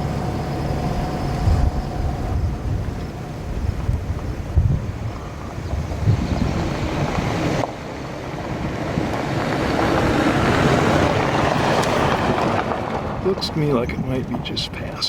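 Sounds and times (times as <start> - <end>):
road traffic rushing: 0.0 - 15.0
wind buffeting microphone: 0.0 - 15.0.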